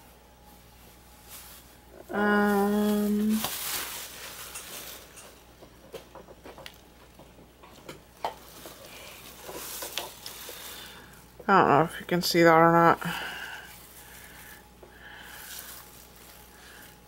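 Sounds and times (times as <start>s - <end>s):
crinkly rustling: 0.4s - 17.0s.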